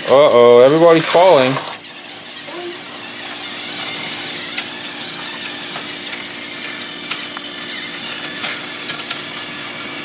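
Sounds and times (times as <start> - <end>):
toy train motors whirring: 0.0 - 10.0.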